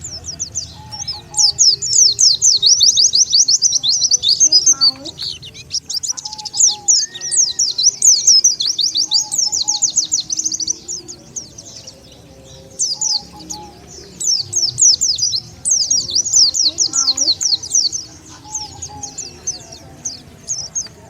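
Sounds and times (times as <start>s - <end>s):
bird song high thin chirps: 0.0s - 21.0s.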